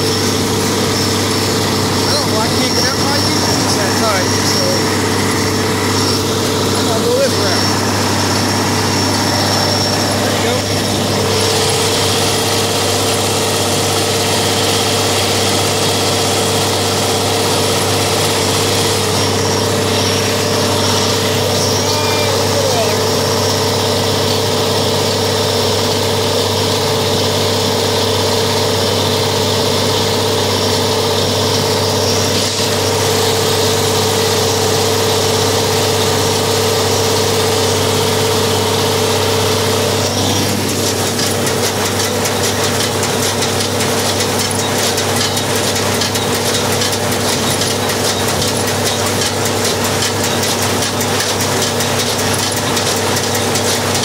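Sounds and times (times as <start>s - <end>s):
rapid ticking clatter: 0.0s - 54.0s
tractor engine running: 0.0s - 54.0s.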